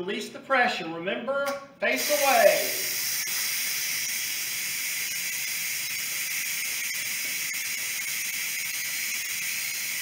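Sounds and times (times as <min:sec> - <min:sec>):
pressure cooker venting steam: 0:02.0 - 0:10.0.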